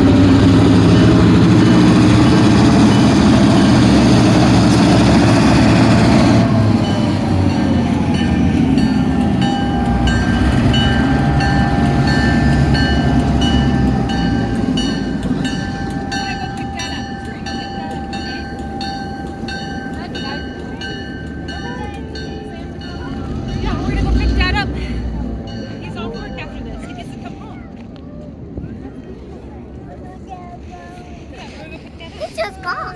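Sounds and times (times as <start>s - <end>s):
locomotive rumble: 0.0s - 32.9s.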